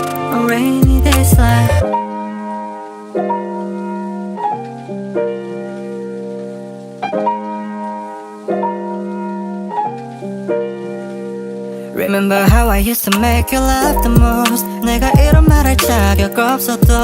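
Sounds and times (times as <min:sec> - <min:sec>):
sustained piano chords: 0:00.0 - 0:17.0.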